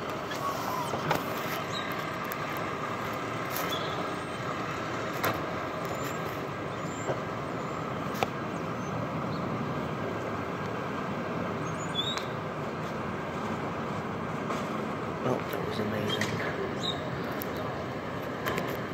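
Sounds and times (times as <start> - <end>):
garbage truck running: 0.0 - 18.9.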